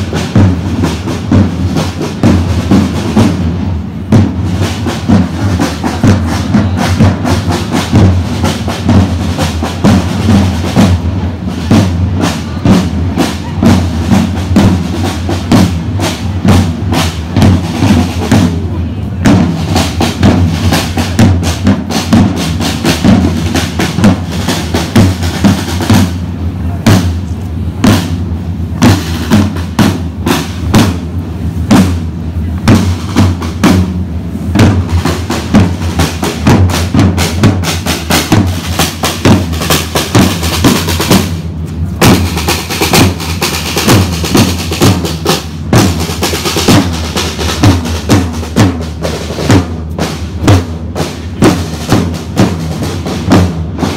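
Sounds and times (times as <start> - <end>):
marching side drums: 0.0 - 53.9.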